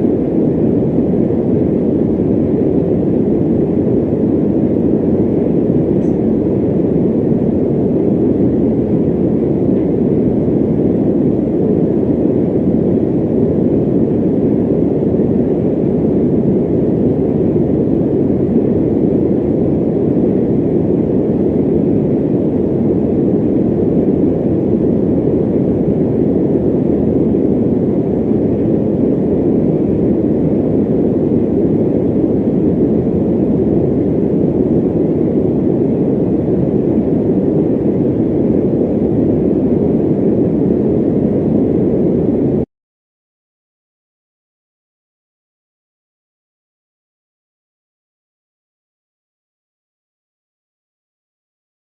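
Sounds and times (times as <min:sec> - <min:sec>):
electric fan running: 0:00.0 - 0:42.7.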